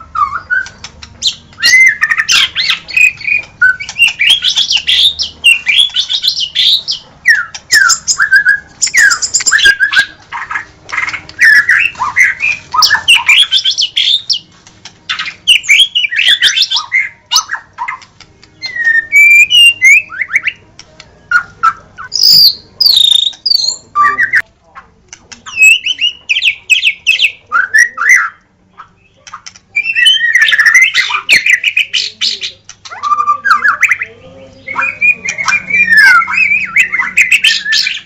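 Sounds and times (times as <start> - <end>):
bird singing whistled notes: 0.0 - 14.4, 15.1 - 20.6, 21.2 - 24.4, 25.5 - 38.0.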